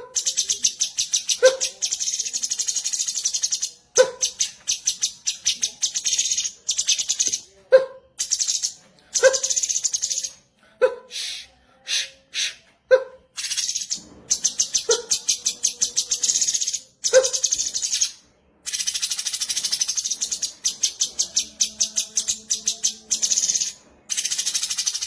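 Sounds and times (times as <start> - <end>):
bird song of rapid high chips: 0.0 - 7.5, 8.2 - 10.4, 13.4 - 25.0.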